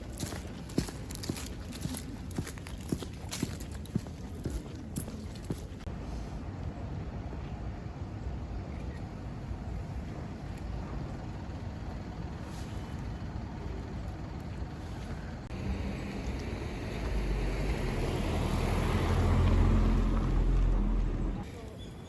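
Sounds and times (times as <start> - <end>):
vehicle engine rumble approaching: 0.0 - 21.7
street traffic: 0.0 - 22.0.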